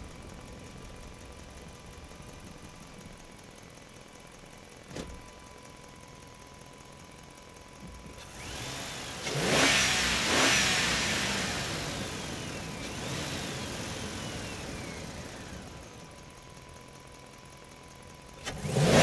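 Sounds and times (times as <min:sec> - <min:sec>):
truck engine and tyres: 0:00.0 - 0:19.0.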